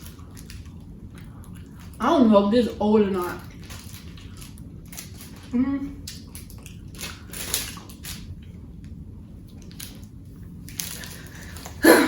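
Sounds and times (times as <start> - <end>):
person chewing softly: 0.0 - 2.0, 3.4 - 11.8.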